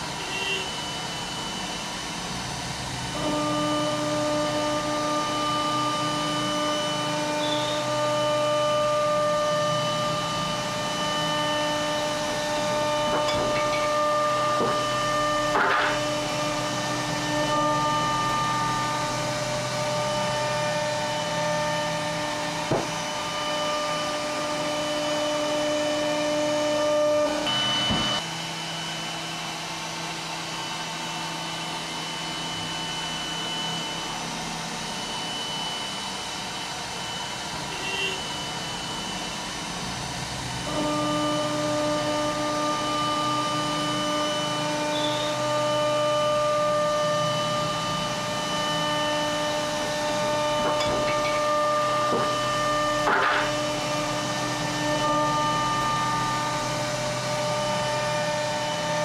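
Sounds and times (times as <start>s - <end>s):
cnc router spindle whining: 0.0s - 59.0s.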